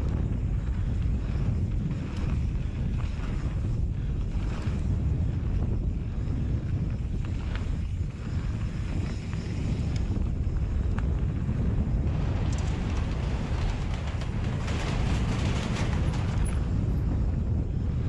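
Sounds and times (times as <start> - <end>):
bike tyres and rattling: 0.0 - 18.0
wind noise on microphone: 0.0 - 18.0.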